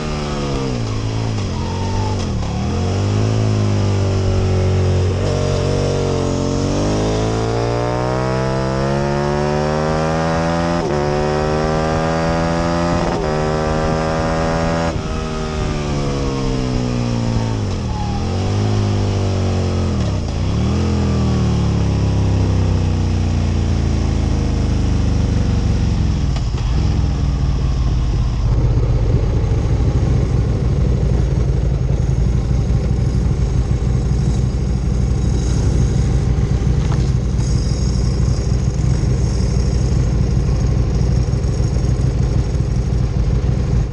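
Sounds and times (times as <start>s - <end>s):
motorcycle engine revving and idling: 0.0s - 43.9s.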